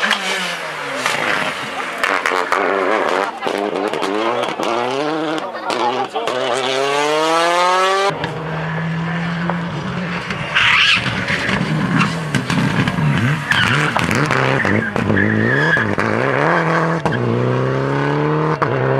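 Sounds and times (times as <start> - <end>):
rally car engine revving: 0.0 - 18.9.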